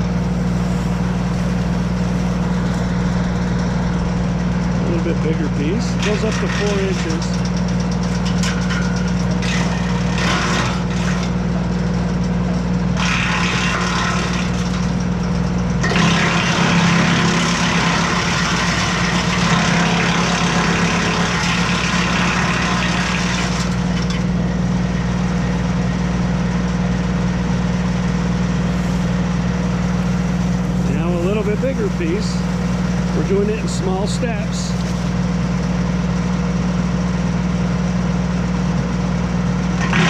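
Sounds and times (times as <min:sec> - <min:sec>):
tractor engine running: 0:00.0 - 0:40.0
wood chipper chipping branch: 0:00.0 - 0:40.0.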